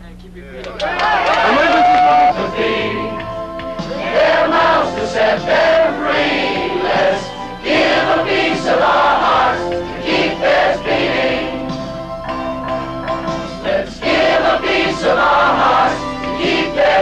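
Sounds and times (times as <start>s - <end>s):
music accompaniment: 0.7s - 17.0s
choir singing: 1.1s - 12.0s, 13.2s - 17.0s.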